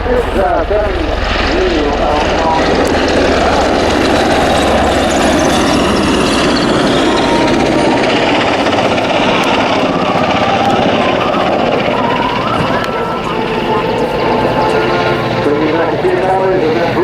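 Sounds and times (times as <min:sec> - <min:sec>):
engine rush: 0:00.0 - 0:17.0
helicopter rotor chop: 0:00.0 - 0:17.0
high whine falling in pitch: 0:00.0 - 0:17.0.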